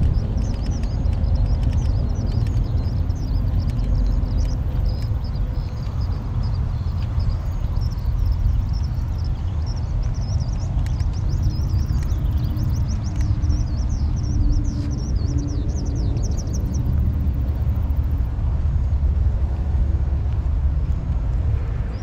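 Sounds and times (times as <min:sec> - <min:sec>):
songbird chirping: 0:00.0 - 0:18.4
steady low rumble: 0:00.0 - 0:22.0.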